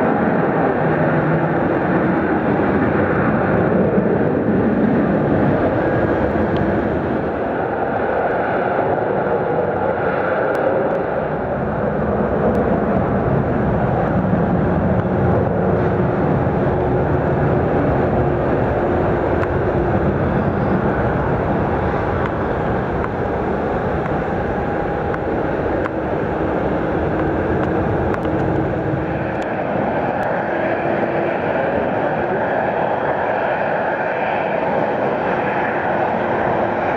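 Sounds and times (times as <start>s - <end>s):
jet engine noise: 0.0s - 36.9s.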